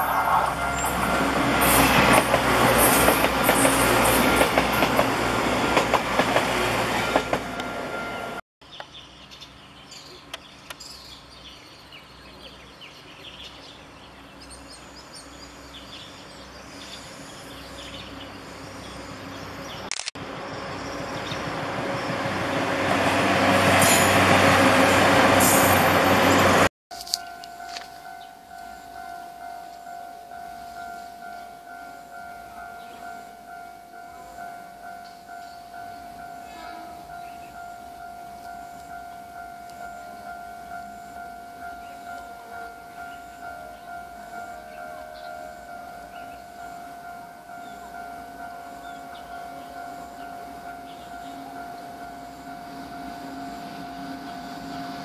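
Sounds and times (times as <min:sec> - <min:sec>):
diesel train passing: 0:00.0 - 0:08.4, 0:11.2 - 0:55.0.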